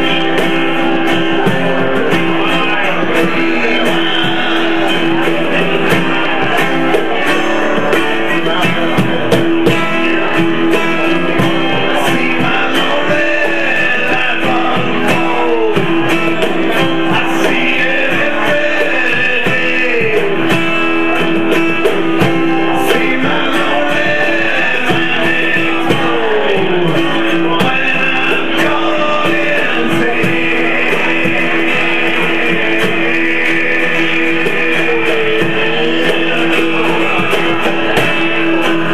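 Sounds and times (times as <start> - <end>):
acoustic guitar strumming: 0.0 - 38.9
man singing: 0.0 - 38.9.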